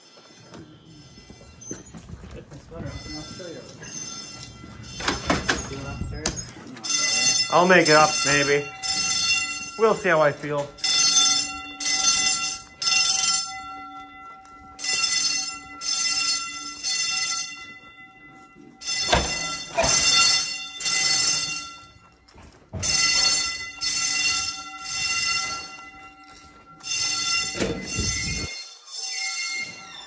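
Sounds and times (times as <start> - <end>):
fire alarm horn blasts: 2.7 - 30.0.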